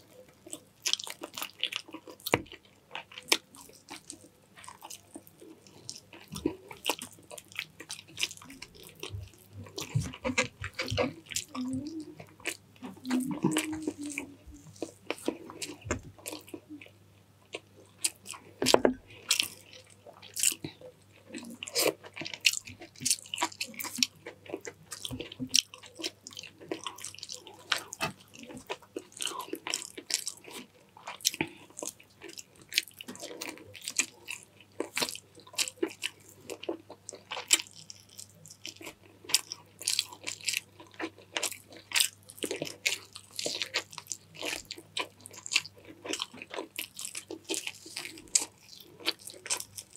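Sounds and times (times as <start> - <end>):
person chewing and biting food: 0.0 - 16.9, 17.5 - 49.9
faint low hum: 0.0 - 49.9.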